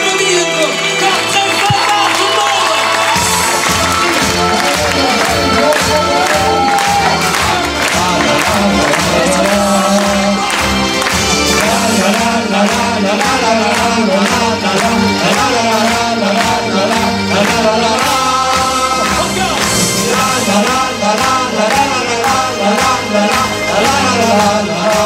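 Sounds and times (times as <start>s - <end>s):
live music with singing: 0.0s - 25.0s
hands clapping along: 0.1s - 25.0s.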